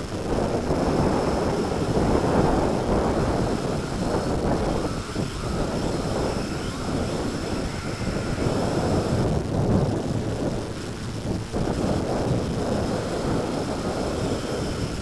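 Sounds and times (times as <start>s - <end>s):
faint high whine: 0.0s - 15.0s
wind buffeting microphone: 0.0s - 15.0s.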